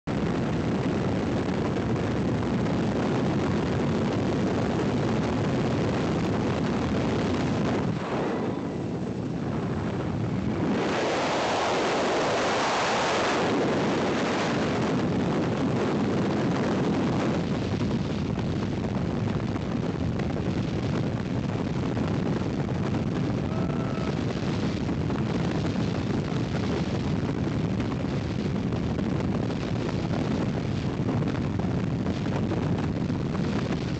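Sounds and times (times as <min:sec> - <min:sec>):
wind rushing over microphone: 0:00.0 - 0:33.9.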